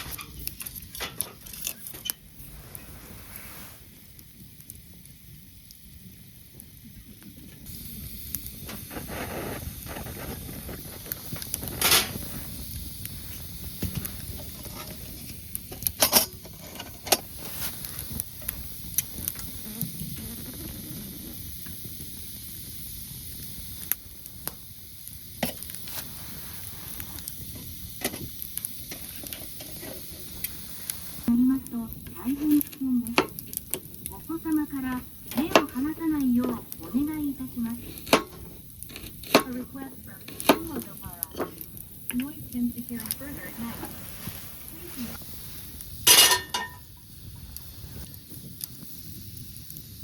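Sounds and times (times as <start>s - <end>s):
food sizzling in a pan: 0.0s - 50.0s.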